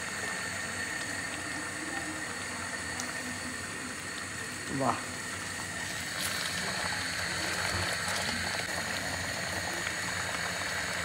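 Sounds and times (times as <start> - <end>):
jam boiling and popping: 0.0 - 11.0.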